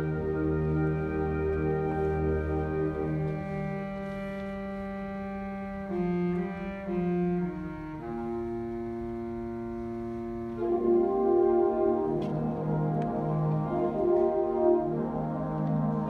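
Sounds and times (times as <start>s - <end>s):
wind band playing sustained chords: 0.0s - 16.0s.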